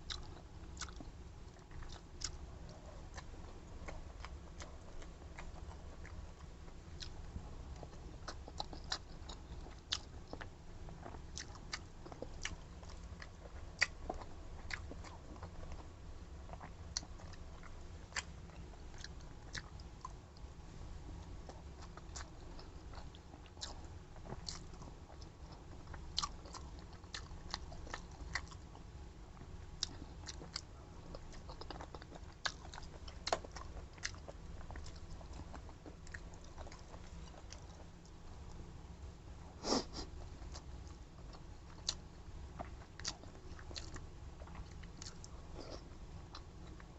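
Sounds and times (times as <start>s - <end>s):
person chewing and smacking: 0.0s - 20.5s, 21.2s - 38.6s, 40.2s - 46.9s
steady low hum: 0.0s - 46.9s.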